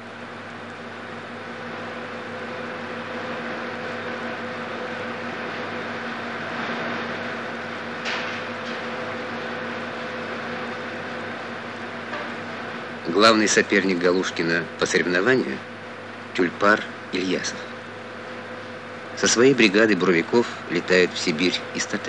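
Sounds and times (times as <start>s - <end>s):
drilling machinery drone: 0.0s - 22.0s.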